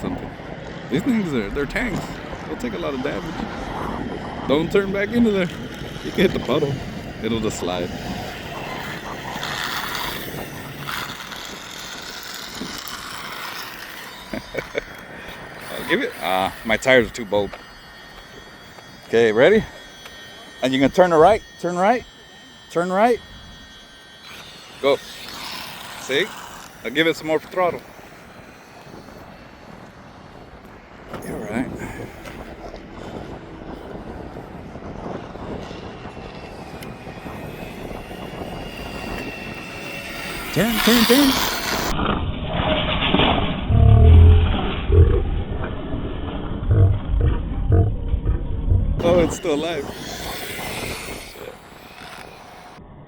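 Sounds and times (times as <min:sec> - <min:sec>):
electric motor whirring: 0:00.0 - 0:42.2, 0:46.7 - 0:52.9
electric toy bikes humming: 0:00.0 - 0:53.0
thin high whine: 0:00.0 - 0:53.0.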